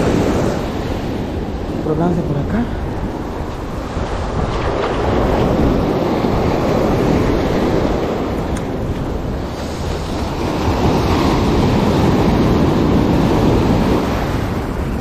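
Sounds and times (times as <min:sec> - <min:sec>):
ocean surf breaking on sand: 0:00.0 - 0:15.0.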